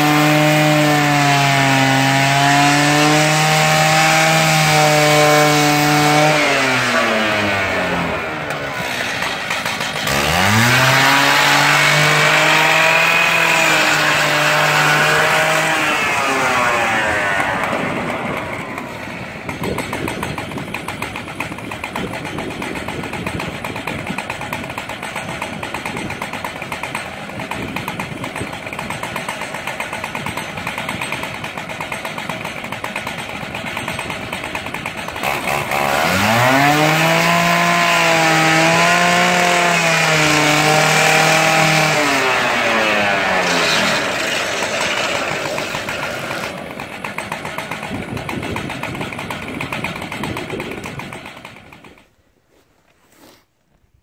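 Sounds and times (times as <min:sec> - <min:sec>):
chainsaw engine revving: 0:00.0 - 0:52.2.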